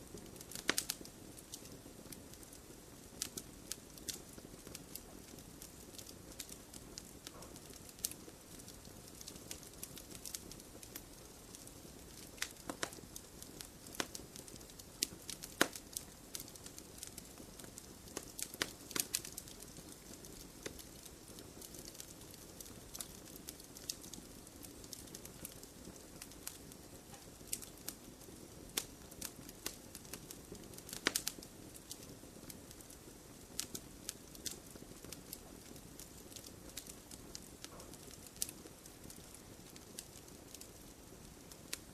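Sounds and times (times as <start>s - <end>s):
campfire crackles and pops: 0.0s - 41.9s
low rush of flame: 0.0s - 41.9s.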